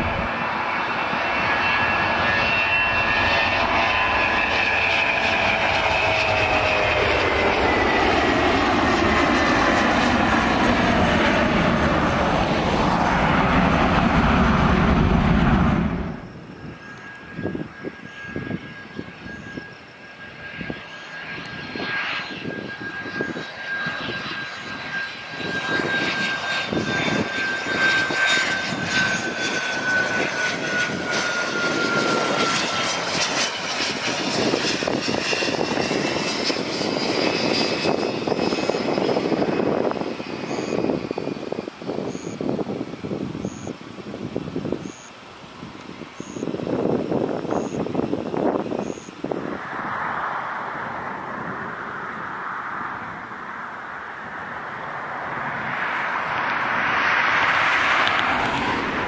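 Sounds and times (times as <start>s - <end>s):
jet engine whine on approach: 0.0s - 59.0s
jet engines at takeoff: 0.0s - 59.0s.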